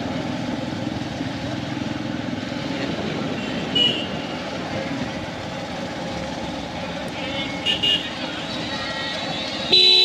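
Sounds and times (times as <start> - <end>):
road and wind noise: 0.0 - 10.0.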